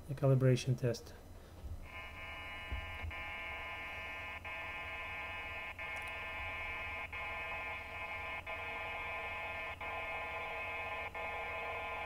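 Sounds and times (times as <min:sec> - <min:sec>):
bursts of dense steady tones: 0:01.8 - 0:12.0.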